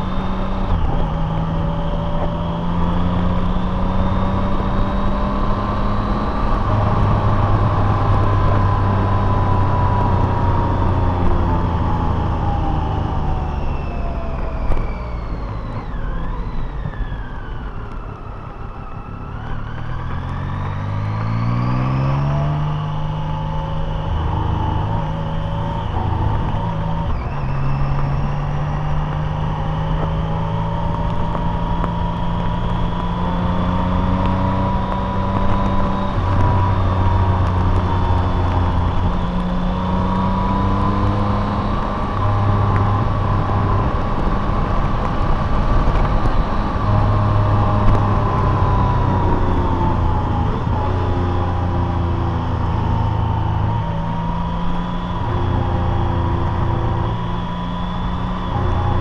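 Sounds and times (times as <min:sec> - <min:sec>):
car engine droning: 0:00.0 - 0:59.0
road noise: 0:00.0 - 0:59.0.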